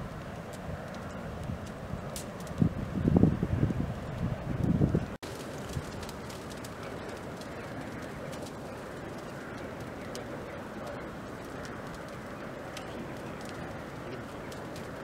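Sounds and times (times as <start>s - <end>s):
fire crackling and popping: 0.0s - 15.0s
fire rushing: 0.0s - 15.0s.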